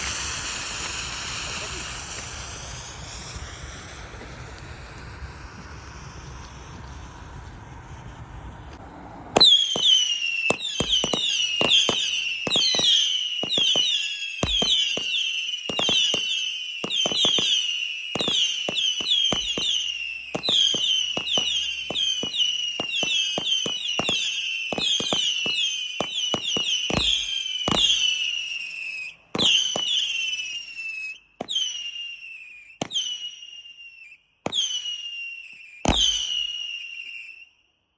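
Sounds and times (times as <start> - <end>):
whistling fireworks cracking: 0.0 - 37.8.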